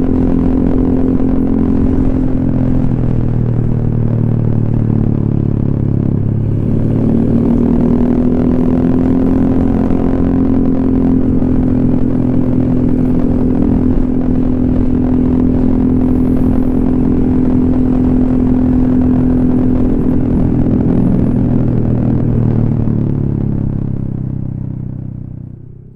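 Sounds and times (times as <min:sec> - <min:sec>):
scooter engine running: 0:00.0 - 0:25.9.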